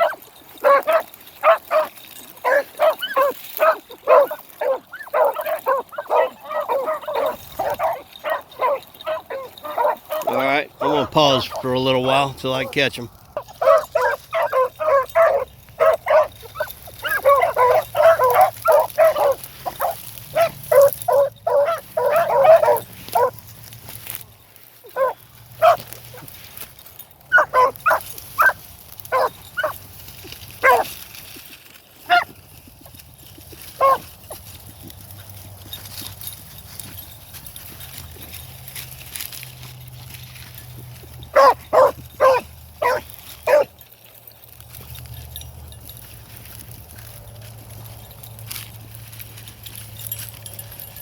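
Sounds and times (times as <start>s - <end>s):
hounds baying: 0.0s - 51.0s.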